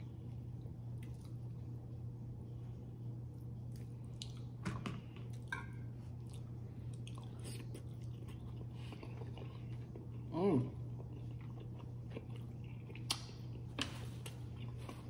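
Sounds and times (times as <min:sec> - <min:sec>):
person chewing food: 0:00.0 - 0:01.9, 0:03.3 - 0:15.0
steady low hum: 0:00.0 - 0:15.0.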